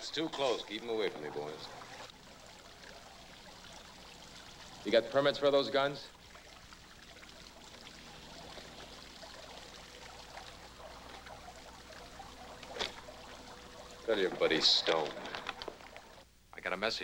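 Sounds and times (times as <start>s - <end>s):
faint steady hum: 0.0s - 17.0s
faint water trickling: 0.0s - 17.0s.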